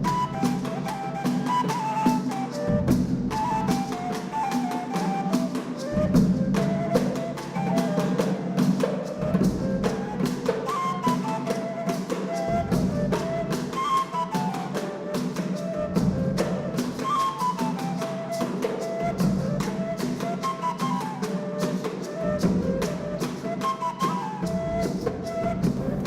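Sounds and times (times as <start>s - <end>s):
quick clicking percussion: 0.0s - 26.0s.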